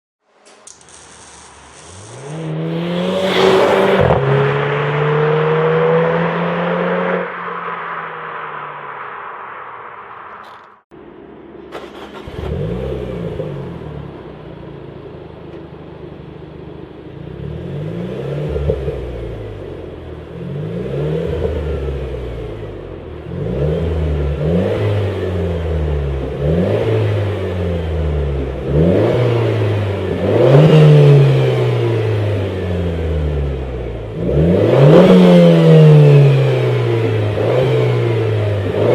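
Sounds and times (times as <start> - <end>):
car engine revving: 0.7 - 15.6, 17.0 - 38.9.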